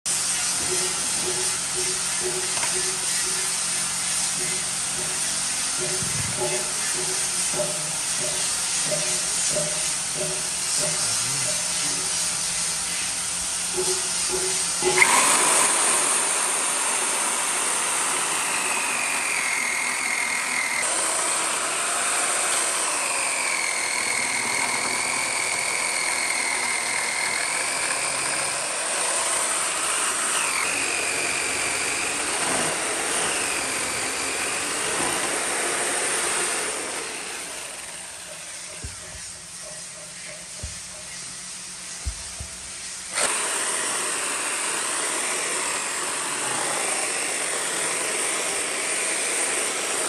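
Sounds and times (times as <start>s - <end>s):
power tool whining on wood: 0.1s - 50.0s.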